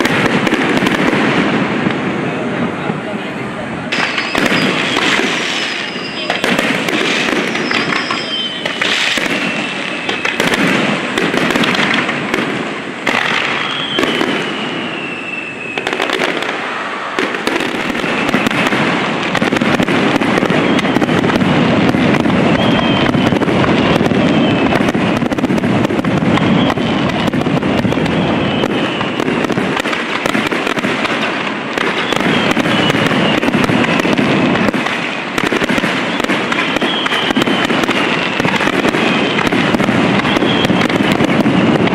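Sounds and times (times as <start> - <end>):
fireworks bursting with bangs: 0.0 - 41.9
fireworks whistling: 0.0 - 41.9.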